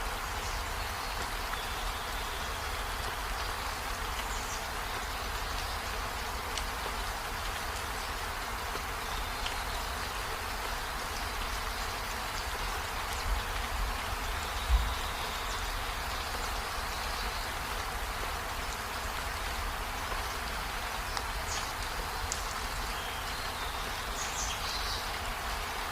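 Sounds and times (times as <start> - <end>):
rain on trees and window: 0.0 - 25.9.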